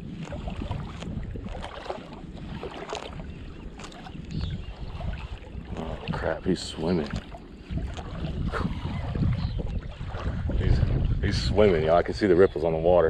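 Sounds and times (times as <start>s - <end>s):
small water splashes: 0.0s - 12.2s
water lapping and sloshing: 0.0s - 13.0s
wind rumbling on microphone: 0.0s - 13.0s.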